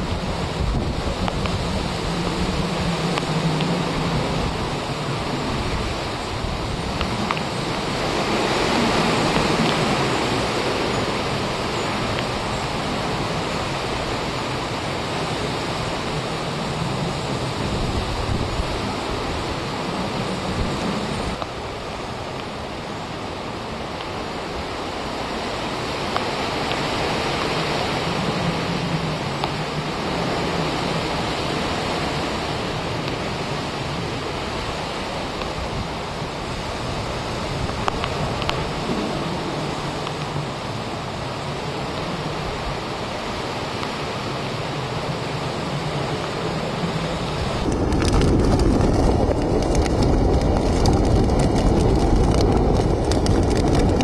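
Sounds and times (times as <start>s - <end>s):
strong storm wind gusting: 0.0s - 54.0s.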